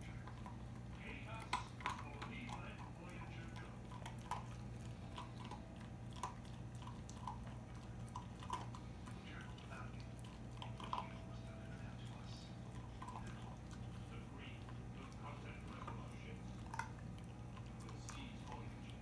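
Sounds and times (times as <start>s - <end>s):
puppy licking wet mouth clicks: 0.1s - 19.0s.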